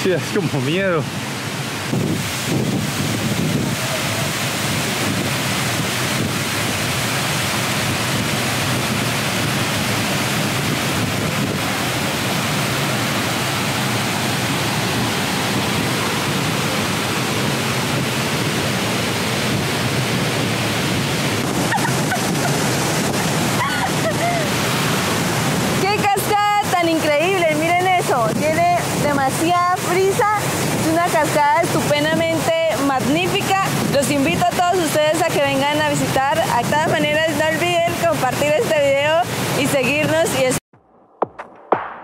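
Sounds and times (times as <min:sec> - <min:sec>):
waterfall rushing: 0:00.0 - 0:40.6.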